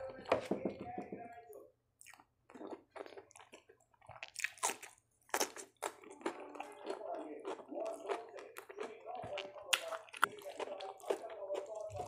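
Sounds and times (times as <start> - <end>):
person chewing raw cucumber: 2.0 - 12.0.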